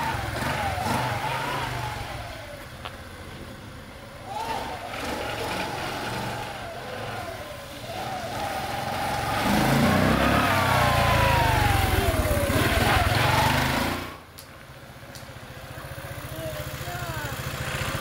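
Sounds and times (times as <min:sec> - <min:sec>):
small motorbike engine whining: 0:00.0 - 0:14.3, 0:15.1 - 0:18.0.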